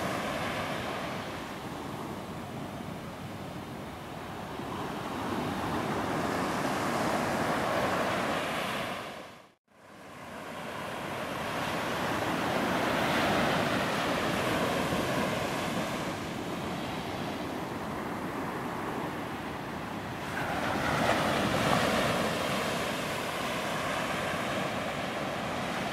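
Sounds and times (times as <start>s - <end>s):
sea surf washing on beach: 0.0s - 25.9s.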